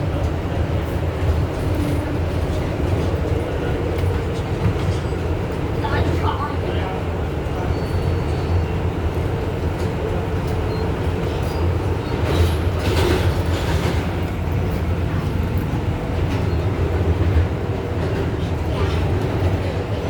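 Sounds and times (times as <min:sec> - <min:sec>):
subway car rumbling: 0:00.0 - 0:20.0.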